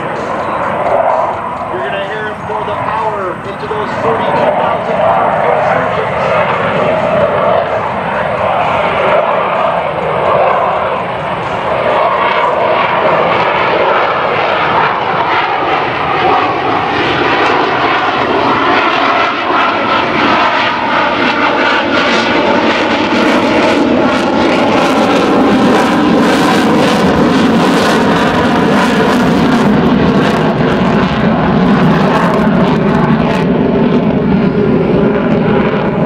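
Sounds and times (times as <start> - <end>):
jet engines at high power: 0.0 - 36.0.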